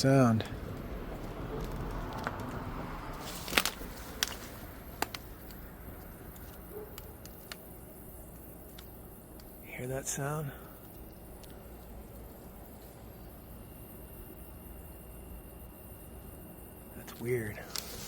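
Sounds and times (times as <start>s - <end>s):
faint hissing and crackling: 0.0s - 18.0s.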